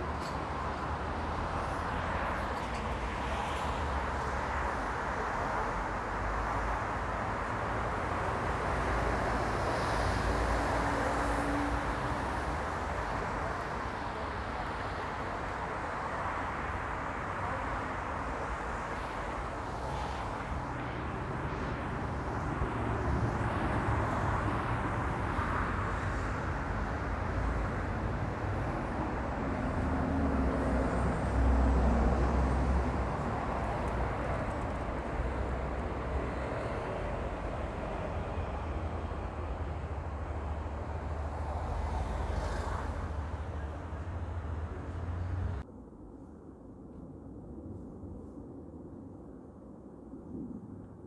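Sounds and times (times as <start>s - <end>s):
traffic noise: 0.0s - 46.1s.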